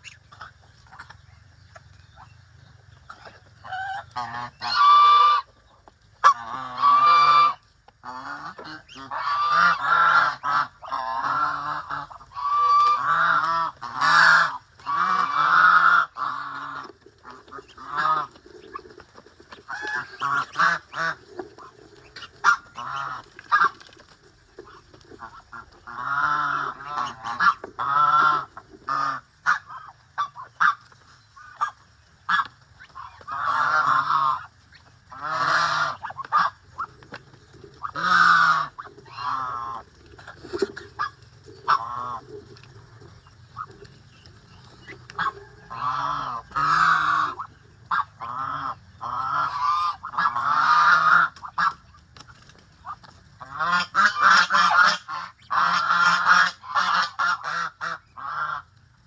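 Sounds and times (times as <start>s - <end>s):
geese honking: 3.0s - 5.6s, 6.2s - 58.8s.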